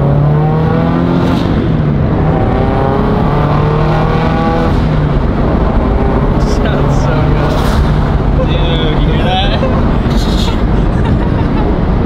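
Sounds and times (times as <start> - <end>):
car engine running loudly: 0.0 - 12.0.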